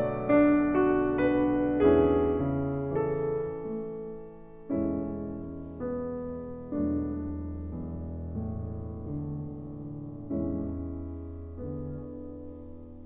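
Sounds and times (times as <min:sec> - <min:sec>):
slow solo piano: 0:00.0 - 0:13.0.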